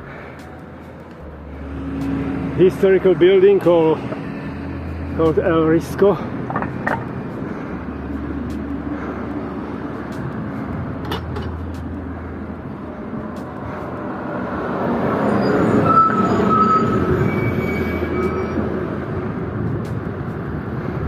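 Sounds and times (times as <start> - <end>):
steady traffic hum: 0.0 - 21.0
vehicle passing close by: 1.2 - 21.0.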